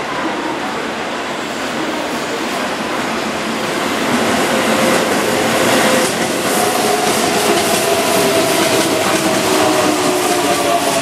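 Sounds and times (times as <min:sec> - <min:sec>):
train wheels rumbling and clattering: 0:01.2 - 0:11.0.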